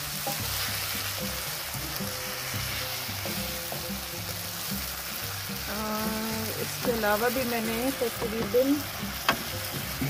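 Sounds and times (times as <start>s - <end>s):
background music: 0.0s - 10.0s
meat sizzling in frying pan: 0.0s - 10.0s.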